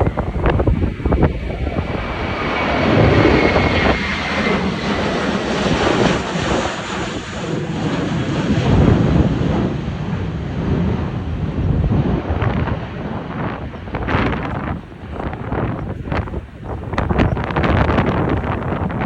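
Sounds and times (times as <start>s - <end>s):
jet airliner engines: 0.0s - 19.0s
wind buffeting microphone: 0.0s - 19.0s.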